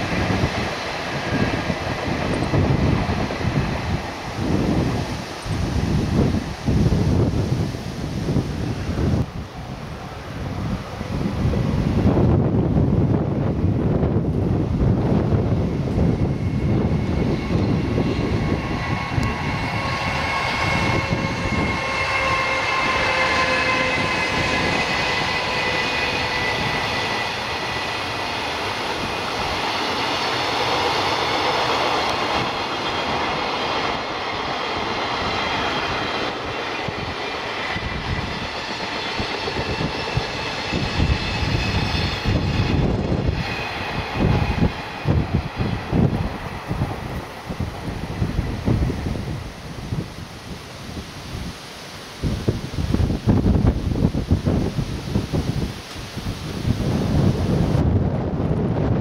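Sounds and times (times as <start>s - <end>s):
electric locomotive motors whining: 0.0s - 59.0s.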